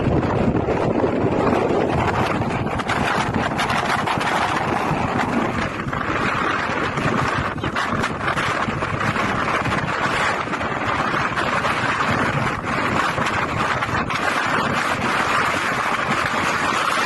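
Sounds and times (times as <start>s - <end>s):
storm wind on microphone: 0.0s - 17.0s.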